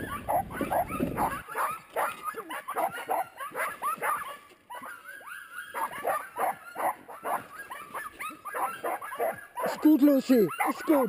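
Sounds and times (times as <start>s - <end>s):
sled dogs whining and yelping: 0.0s - 11.0s.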